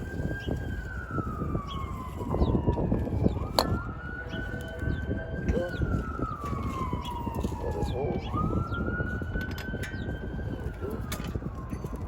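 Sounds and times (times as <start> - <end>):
distant siren wailing: 0.0 - 12.0.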